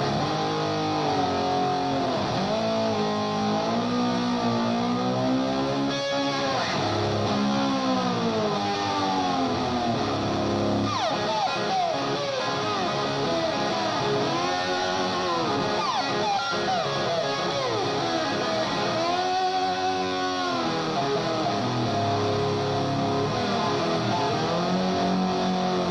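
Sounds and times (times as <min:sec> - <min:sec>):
live rock band: 0:00.0 - 0:25.9
slide guitar bending notes: 0:00.0 - 0:25.9.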